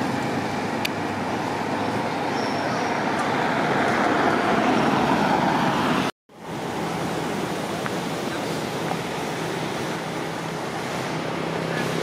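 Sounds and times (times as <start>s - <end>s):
outdoor rushing noise: 0.0s - 12.0s.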